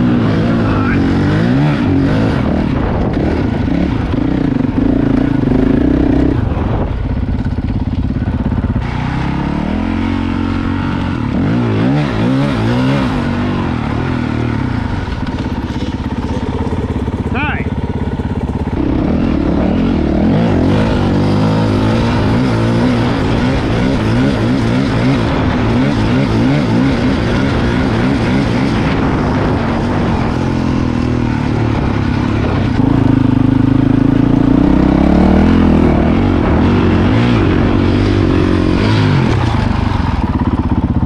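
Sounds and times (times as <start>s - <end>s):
dirt bike engine revving: 0.0s - 41.0s
steady rushing noise: 0.0s - 41.0s.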